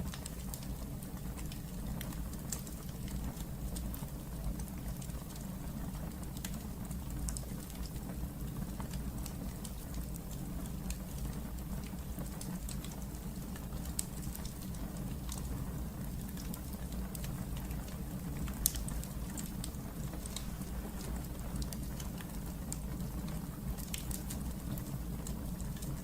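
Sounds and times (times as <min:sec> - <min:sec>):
fire crackles and pops: 0:00.0 - 0:26.0
fireplace flames rumbling: 0:00.0 - 0:26.0.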